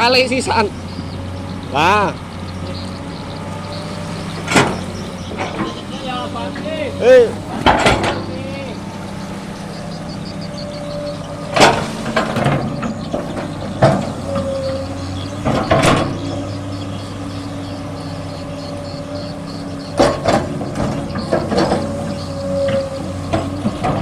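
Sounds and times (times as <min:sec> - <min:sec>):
excavator engine running: 0:00.0 - 0:24.0
metallic clanks and knocks: 0:02.5 - 0:24.0.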